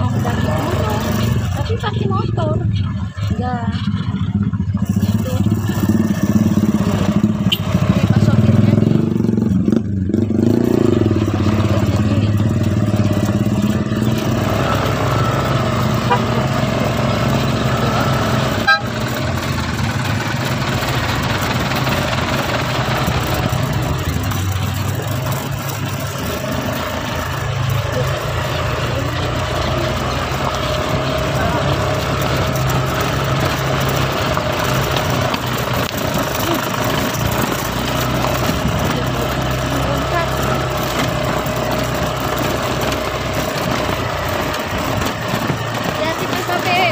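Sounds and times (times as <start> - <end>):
motorcycle engine running: 0.0 - 46.9
road and wind noise: 0.0 - 46.9.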